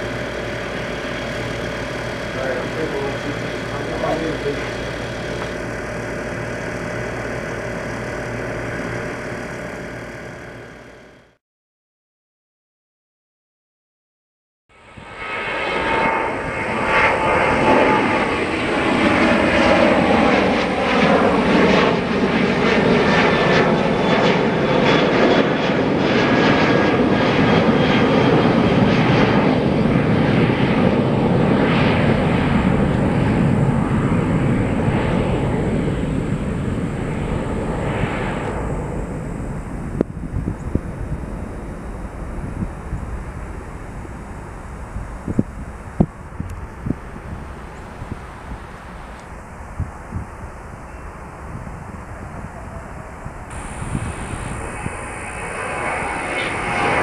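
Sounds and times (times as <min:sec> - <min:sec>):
jet plane roaring overhead: 0:00.0 - 0:11.4, 0:14.7 - 0:57.0.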